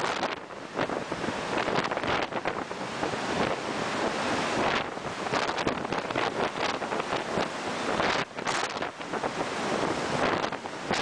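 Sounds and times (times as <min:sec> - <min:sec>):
rough seas breaking: 0:00.0 - 0:11.0
strong wind buffeting microphone: 0:00.0 - 0:11.0.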